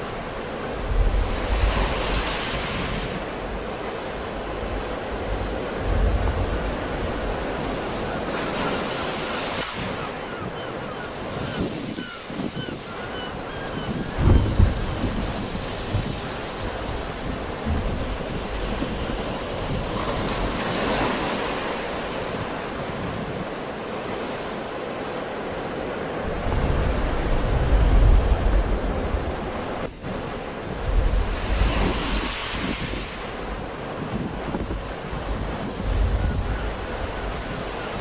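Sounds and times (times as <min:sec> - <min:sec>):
sea waves breaking: 0:00.0 - 0:38.0
wind buffeting microphone: 0:00.0 - 0:38.0.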